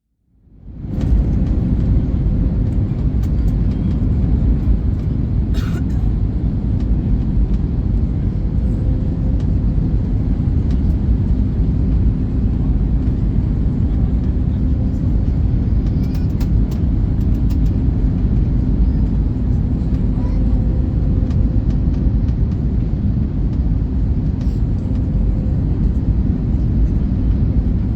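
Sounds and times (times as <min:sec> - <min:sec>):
airplane cabin engine rush: 0:00.3 - 0:27.9.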